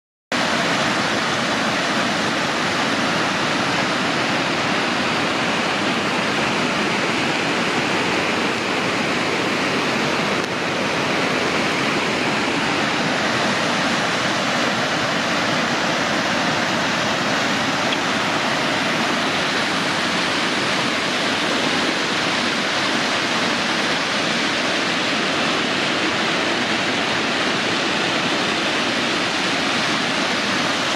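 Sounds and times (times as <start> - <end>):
water rushing over cascades: 0.3 - 30.9.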